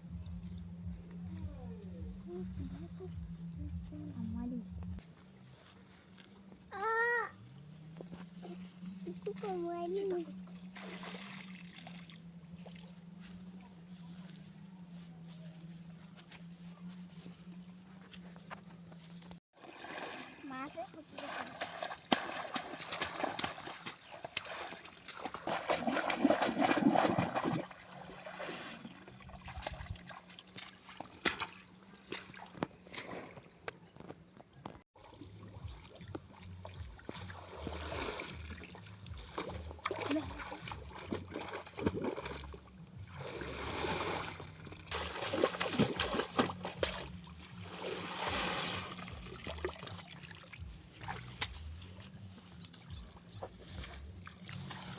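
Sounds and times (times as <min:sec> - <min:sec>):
river water splashing: 0:07.4 - 0:34.0, 0:35.0 - 0:54.9.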